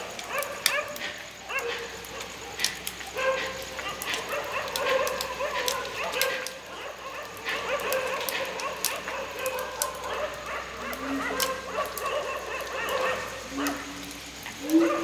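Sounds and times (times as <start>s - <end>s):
dogs barking and yelping: 0.0s - 15.0s.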